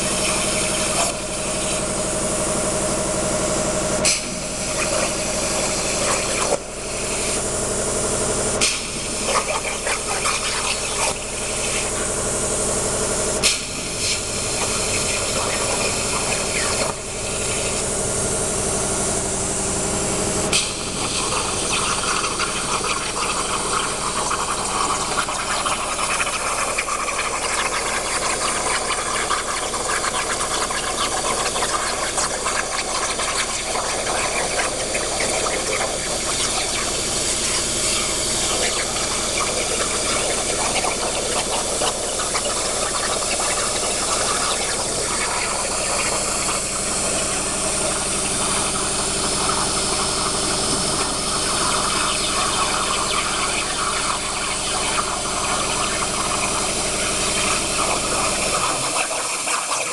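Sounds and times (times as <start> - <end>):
plasma torch hissing: 4.0 - 7.4, 8.6 - 12.1, 13.4 - 18.2, 20.5 - 59.9.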